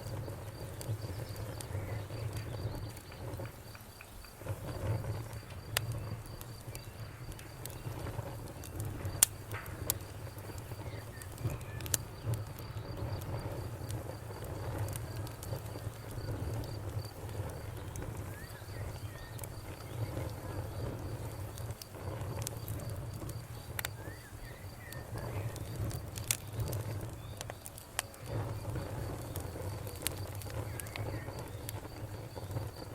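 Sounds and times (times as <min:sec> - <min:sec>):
campfire crackling and popping: 0:00.0 - 0:32.9
high insect trill: 0:00.0 - 0:32.9.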